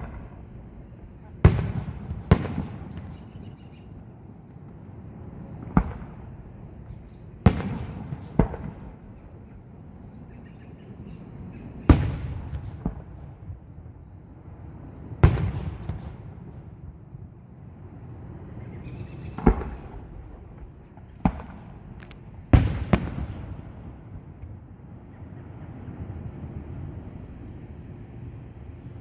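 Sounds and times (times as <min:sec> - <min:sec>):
fireworks booming: 0:00.0 - 0:27.0.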